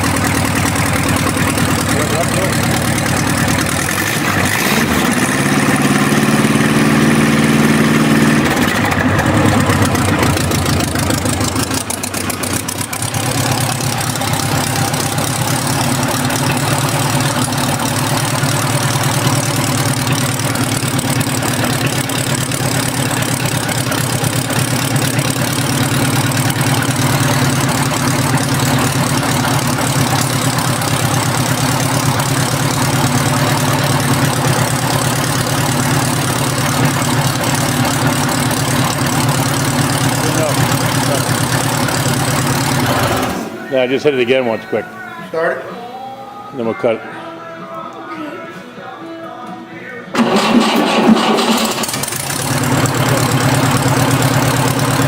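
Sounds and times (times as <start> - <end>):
air-cooled jeep engine running: 0.0 - 45.5, 50.2 - 55.0.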